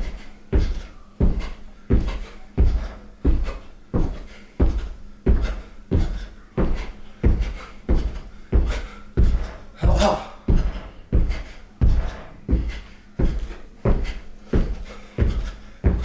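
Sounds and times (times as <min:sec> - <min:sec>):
heavy rhythmic thuds: 0:00.0 - 0:16.0.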